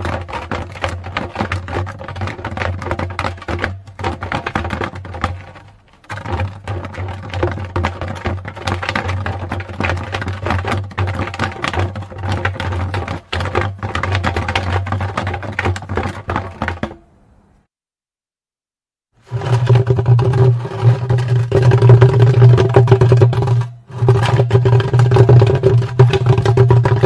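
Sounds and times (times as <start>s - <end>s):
wooden barrel dragged over pavement: 0.0s - 17.0s, 19.2s - 27.0s.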